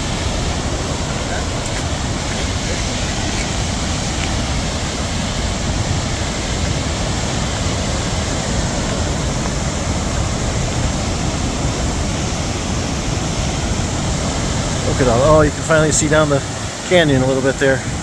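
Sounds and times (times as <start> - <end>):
waterfall rushing: 0.0 - 18.0
wind buffeting microphone: 0.0 - 18.0.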